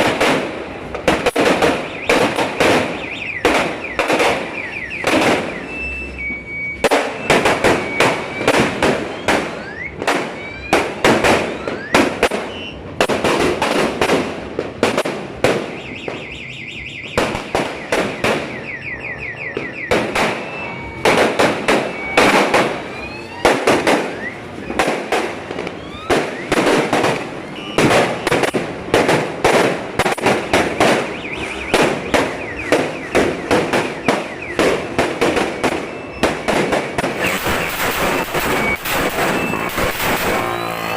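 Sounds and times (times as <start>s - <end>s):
firecrackers banging: 0.0s - 40.9s.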